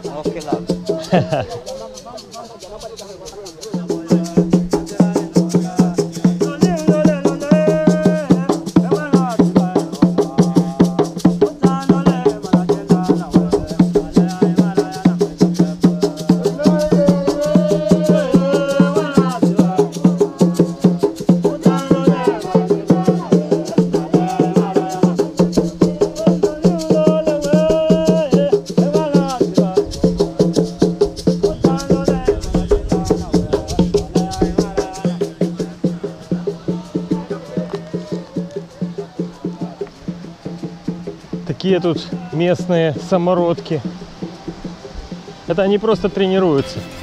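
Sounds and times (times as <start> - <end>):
hand-drumming on wooden drums: 0.0 - 47.0
voices singing: 0.0 - 47.0.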